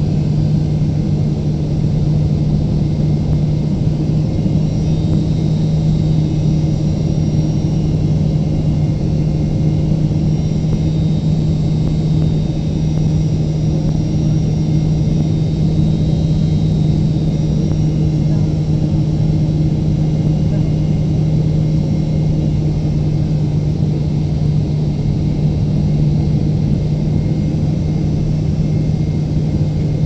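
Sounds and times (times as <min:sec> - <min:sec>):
airplane cabin engine drone: 0:00.0 - 0:30.0.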